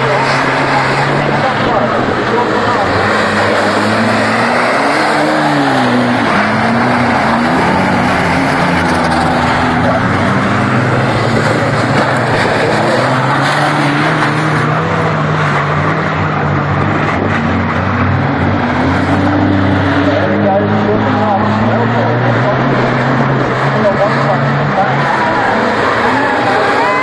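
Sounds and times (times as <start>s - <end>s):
cars on track: 0.0s - 27.0s
racing car engines revving: 0.0s - 27.0s.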